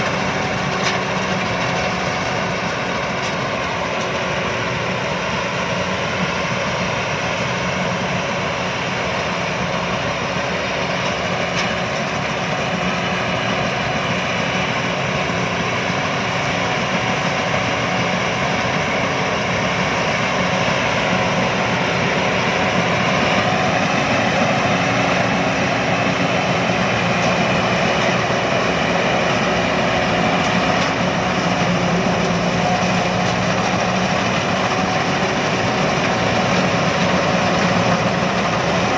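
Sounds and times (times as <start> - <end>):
combine harvester engine running: 0.0 - 38.9.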